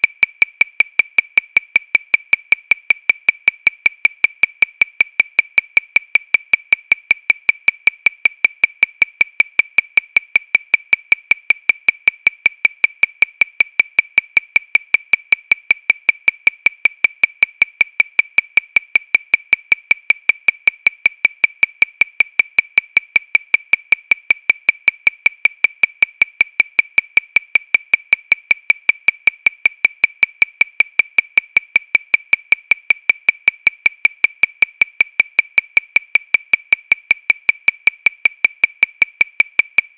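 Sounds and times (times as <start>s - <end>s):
metronome clicking: 0.0s - 39.9s.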